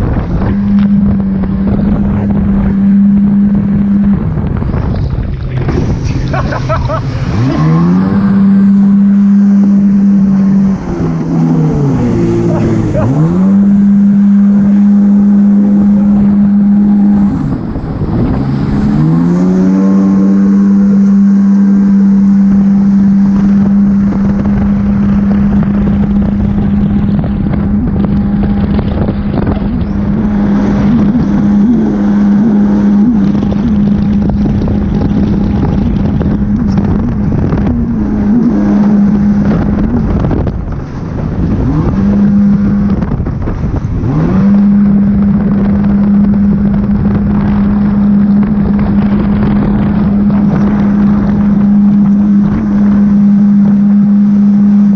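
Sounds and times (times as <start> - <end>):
jet ski engine running: 0.0 - 54.9
water noise: 0.0 - 54.9
wind noise: 0.0 - 54.9.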